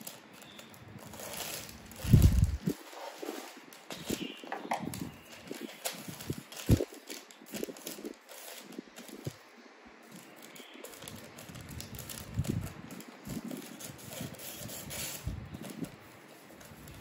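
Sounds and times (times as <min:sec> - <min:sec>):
paper wrapper rustling: 0:00.0 - 0:17.0.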